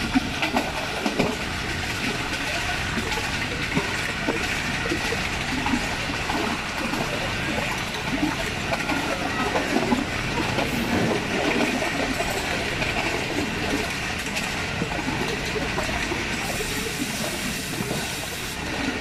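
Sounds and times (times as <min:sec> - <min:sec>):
train rumble and rush: 0:00.0 - 0:19.0.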